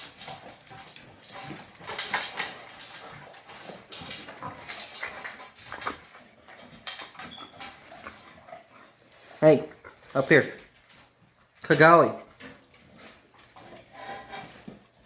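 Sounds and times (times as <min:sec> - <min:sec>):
dogs chewing and crunching food: 0:00.0 - 0:15.0
food bowl clinking and scraping: 0:00.0 - 0:15.0.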